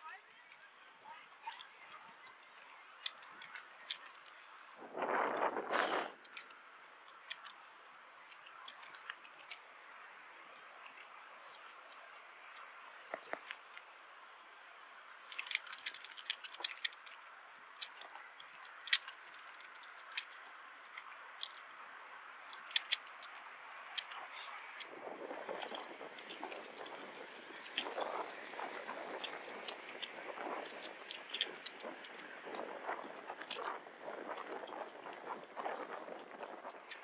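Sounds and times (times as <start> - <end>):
faint steady hiss: 0.0 - 37.0
bicycle clicks and rattles: 1.4 - 4.6, 6.2 - 7.6, 8.2 - 9.6, 10.8 - 13.8, 15.2 - 21.7, 22.5 - 37.0.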